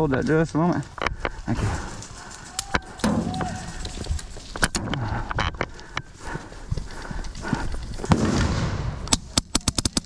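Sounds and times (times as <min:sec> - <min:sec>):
quick footsteps on hard ground: 0:00.0 - 0:08.5.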